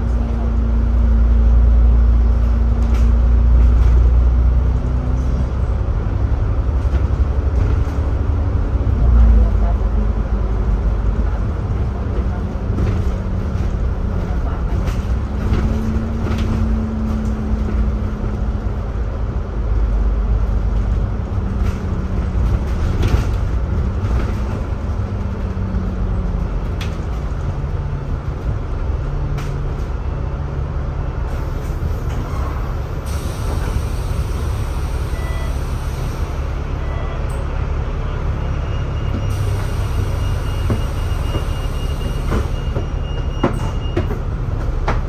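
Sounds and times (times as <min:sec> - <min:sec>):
bus engine rumble: 0:00.0 - 0:45.0.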